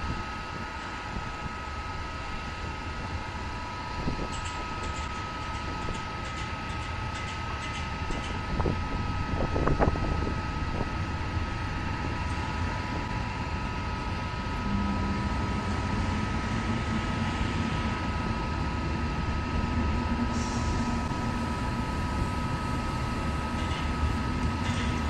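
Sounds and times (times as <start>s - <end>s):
low hum: 0.0s - 25.0s
train wheels rumbling on rail: 0.0s - 25.0s.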